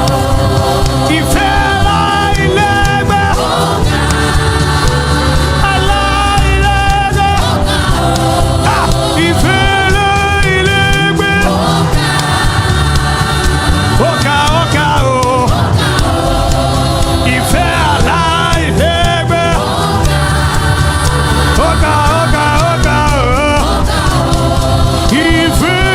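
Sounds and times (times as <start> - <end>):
band accompaniment: 0.0 - 25.9
choir and congregation singing: 0.0 - 25.9
steady bass: 0.0 - 25.9.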